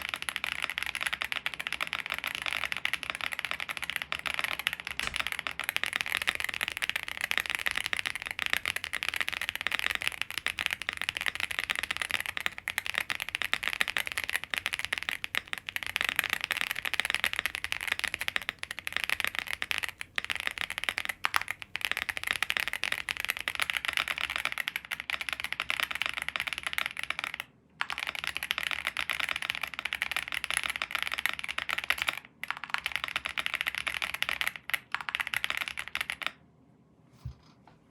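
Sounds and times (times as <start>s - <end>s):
fast mechanical keyboard typing: 0.0s - 36.4s.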